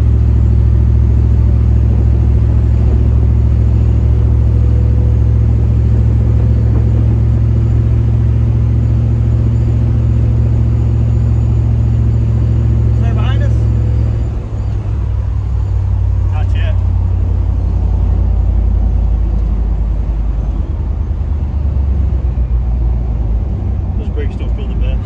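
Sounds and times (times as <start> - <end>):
engine and road rumble in cab: 0.0 - 25.0.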